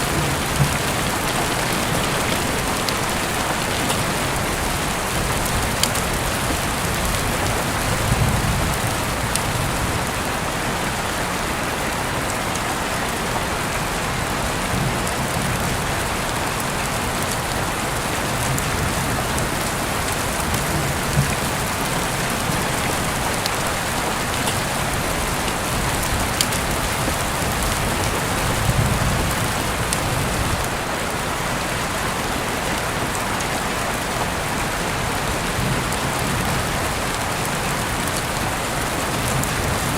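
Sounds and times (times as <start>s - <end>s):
heavy rain falling: 0.0s - 39.9s
raindrops striking close by: 0.0s - 39.9s.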